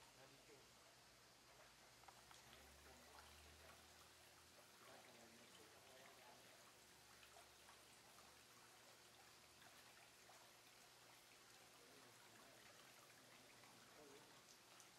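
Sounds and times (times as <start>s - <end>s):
aquarium water trickling: 0.0s - 14.9s.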